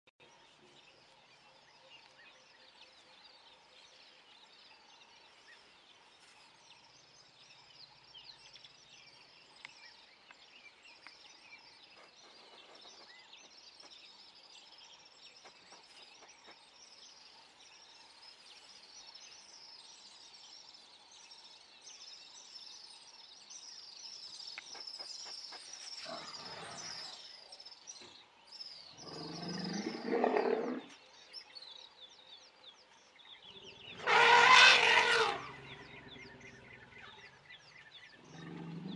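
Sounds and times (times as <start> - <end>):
small birds chirping: 0.2 - 38.9.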